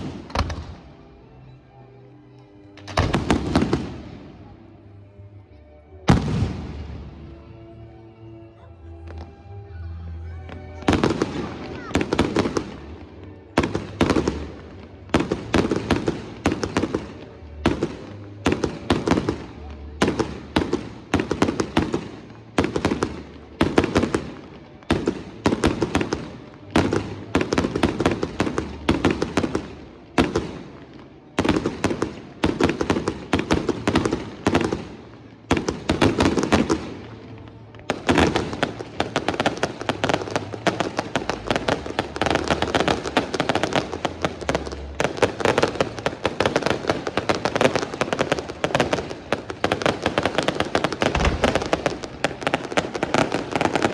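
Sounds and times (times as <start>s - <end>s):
fireworks crackling: 0.0s - 1.2s, 2.7s - 4.6s, 6.1s - 7.4s, 10.5s - 53.9s.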